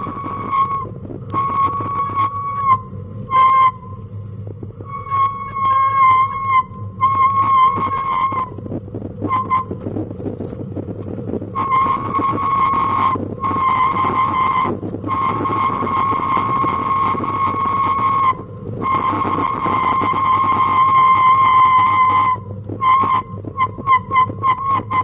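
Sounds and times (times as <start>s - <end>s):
high-pitched squeal: 0.0s - 4.1s, 4.8s - 8.6s, 11.5s - 25.0s
wheels rumbling on tarmac: 0.0s - 25.0s.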